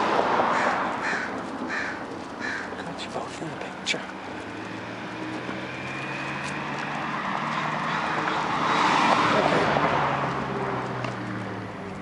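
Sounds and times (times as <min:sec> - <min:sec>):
car passing: 0:00.0 - 0:12.0.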